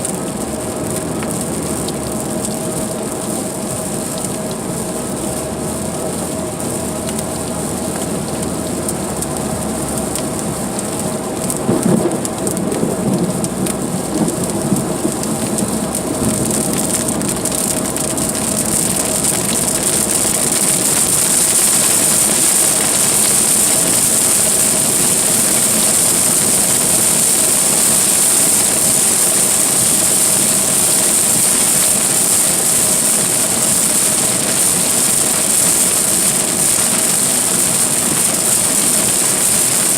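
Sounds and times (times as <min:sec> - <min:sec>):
heavy rain on a car: 0:00.0 - 0:39.9
low rumble: 0:00.0 - 0:39.9.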